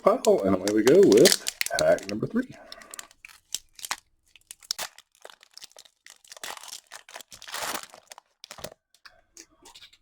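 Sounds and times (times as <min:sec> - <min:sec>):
foil wrapper crinkling: 0:00.1 - 0:08.8
foil wrapper ripping: 0:00.2 - 0:08.8.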